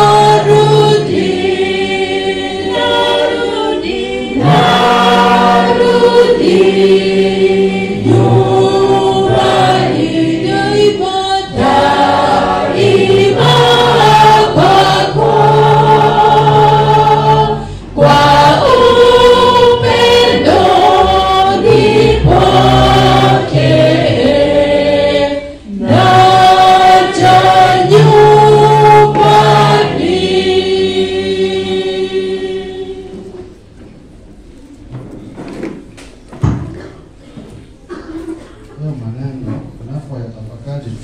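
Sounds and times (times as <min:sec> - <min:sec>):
group singing a hymn: 0:00.0 - 0:33.7.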